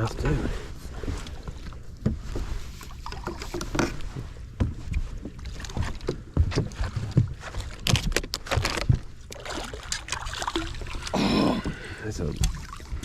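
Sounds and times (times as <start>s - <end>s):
knocks and thumps in boat: 0.0s - 10.8s, 11.4s - 13.0s.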